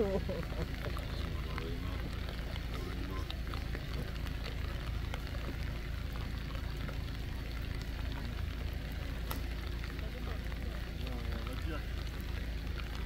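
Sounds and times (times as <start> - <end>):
rain drops ticking: 0.0 - 13.0
steady low rumble: 0.0 - 13.0.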